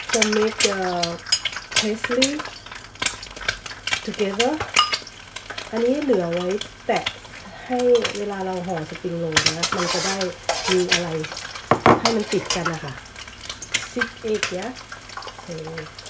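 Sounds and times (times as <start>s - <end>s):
eggs sizzling in hot oil: 0.0s - 16.0s.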